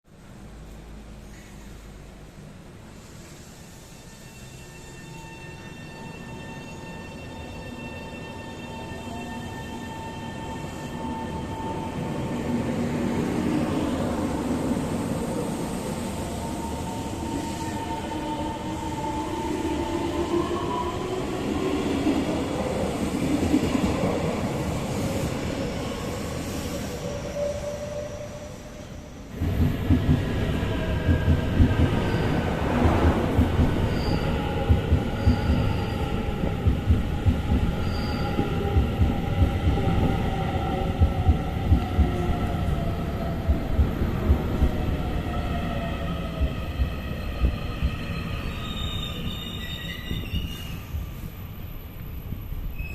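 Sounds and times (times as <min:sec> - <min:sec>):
train running on rails: 0:00.3 - 0:52.9.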